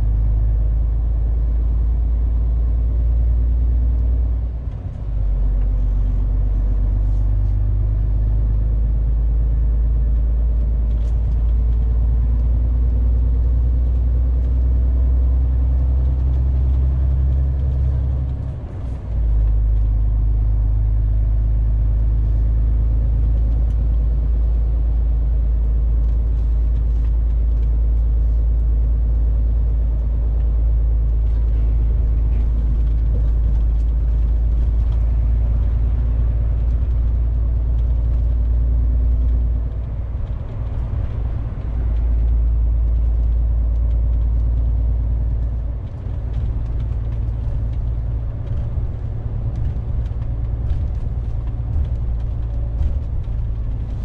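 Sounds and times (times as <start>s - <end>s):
road noise: 0.0s - 54.0s
truck diesel engine droning: 0.0s - 54.0s.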